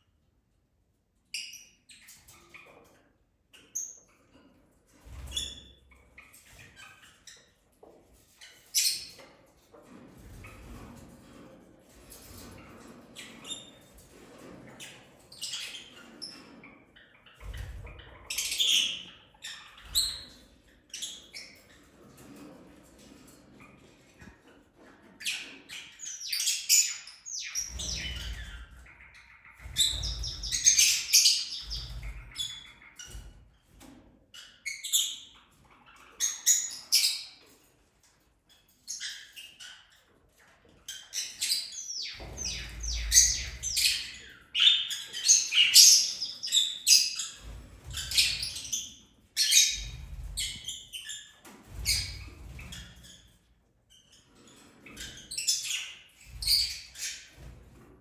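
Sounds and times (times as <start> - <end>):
lovebirds chirping and squawking: 1.3 - 57.9.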